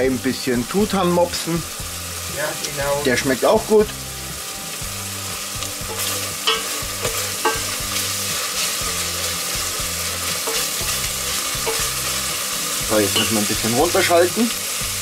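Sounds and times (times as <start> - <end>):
bacon and onions sizzling: 0.0 - 15.0.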